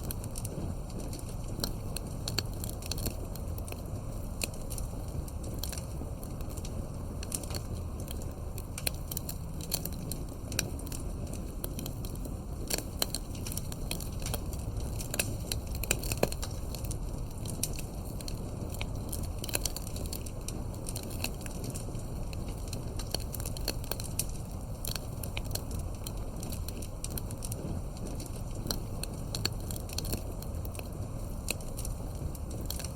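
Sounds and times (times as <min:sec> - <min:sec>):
campfire crackling: 0:00.0 - 0:32.9
fire low rush: 0:00.0 - 0:32.9.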